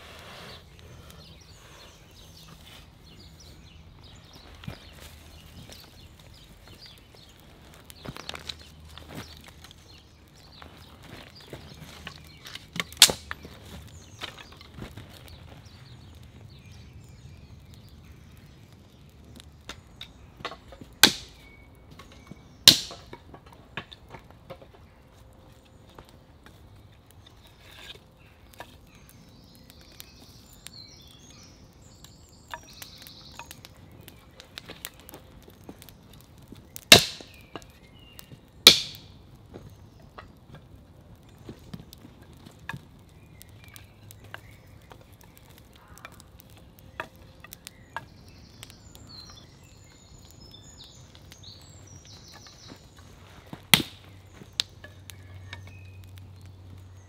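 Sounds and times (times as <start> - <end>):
wood fire crackling: 0.0 - 57.0
dry sticks snapping: 0.7 - 24.9, 25.5 - 57.0.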